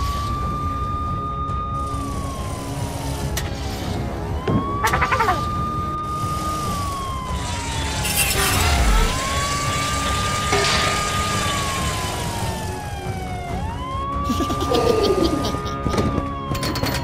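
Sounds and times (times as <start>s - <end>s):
cartoon police siren wailing: 0.0s - 17.0s.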